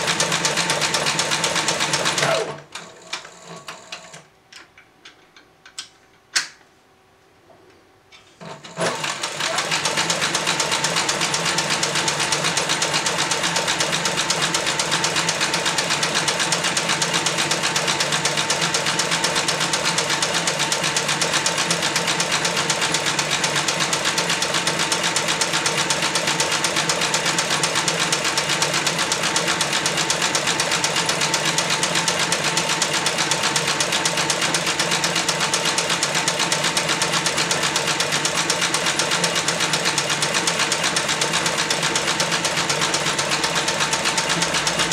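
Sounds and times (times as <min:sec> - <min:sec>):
leather sewing machine stitching: 0:00.0 - 0:04.2, 0:08.4 - 0:44.9.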